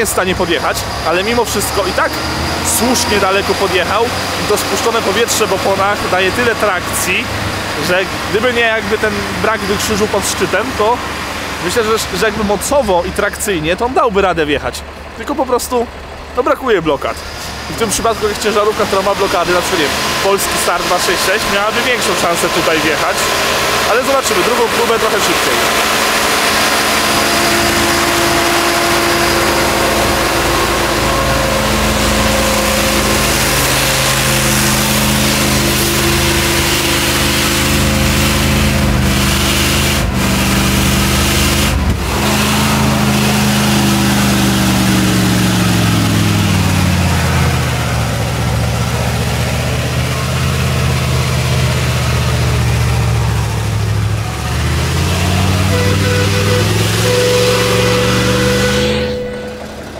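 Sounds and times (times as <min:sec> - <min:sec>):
truck engine labouring: 0:00.0 - 0:59.9.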